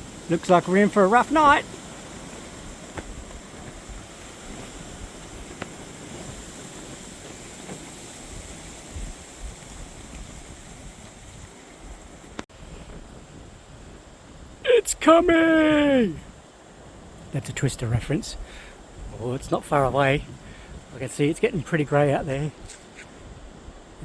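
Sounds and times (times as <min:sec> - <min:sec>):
strong gusting wind on microphone: 0:00.0 - 0:24.0.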